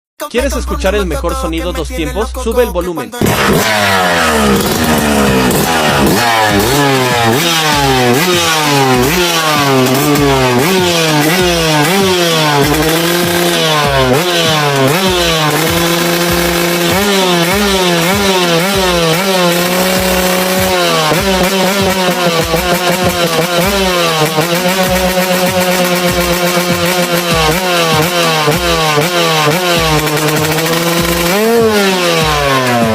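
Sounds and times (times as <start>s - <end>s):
two-stroke engine revving: 3.2s - 32.9s.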